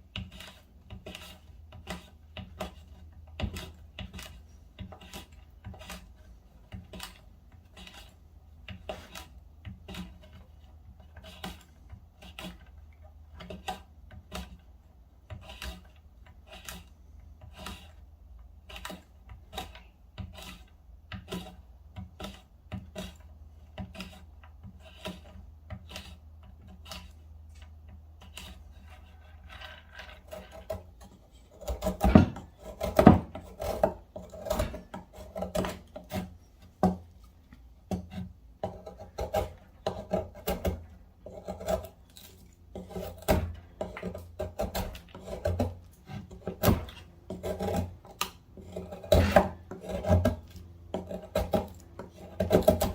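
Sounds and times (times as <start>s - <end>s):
knife cutting into hard wood: 0.1s - 14.6s, 15.2s - 18.0s, 18.6s - 27.2s, 28.2s - 52.9s.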